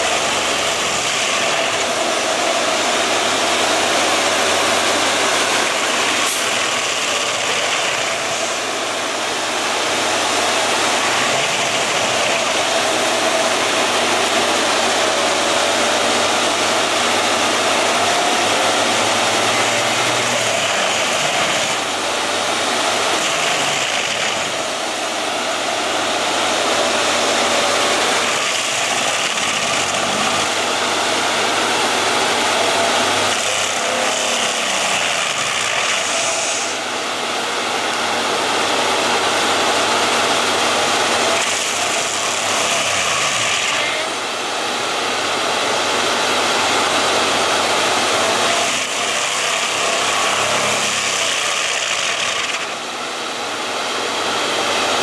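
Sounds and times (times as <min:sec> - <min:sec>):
machine running noisily: 0:00.0 - 0:55.0.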